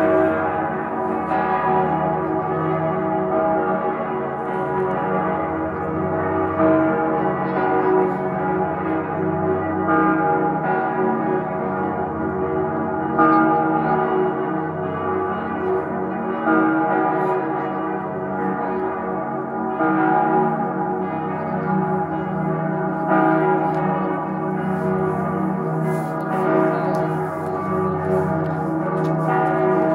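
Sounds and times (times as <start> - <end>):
church bells pealing: 0.0 - 29.9.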